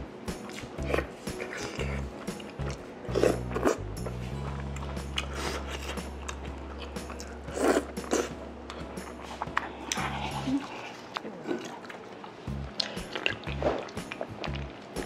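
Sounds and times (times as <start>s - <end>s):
background music: 0.0s - 11.1s, 12.1s - 15.0s
chewing and biting food: 0.4s - 15.0s.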